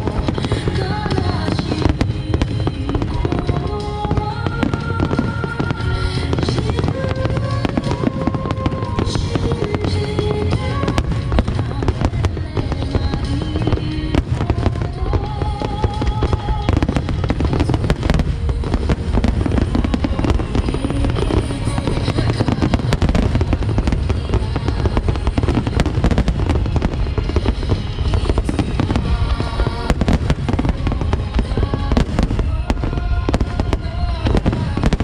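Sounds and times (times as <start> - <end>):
deep rumble: 0.0 - 35.0
fireworks shells bursting: 0.0 - 35.0.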